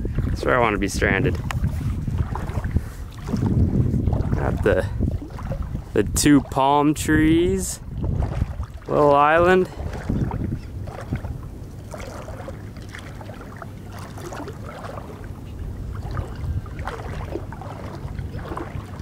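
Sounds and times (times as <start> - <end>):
water splashing and trickling: 0.0 - 19.0
wind rumbling on microphone: 0.0 - 19.0.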